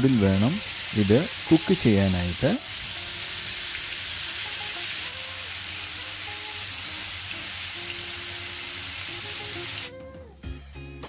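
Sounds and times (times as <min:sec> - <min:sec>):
food sizzling in a pan: 0:00.0 - 0:09.9
soft background music: 0:00.0 - 0:11.0.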